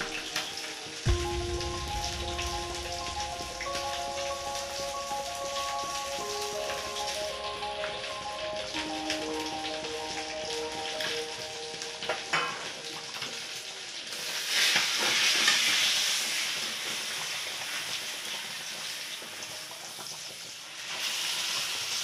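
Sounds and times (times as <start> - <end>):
curry bubbling and sizzling: 0.0 - 22.0.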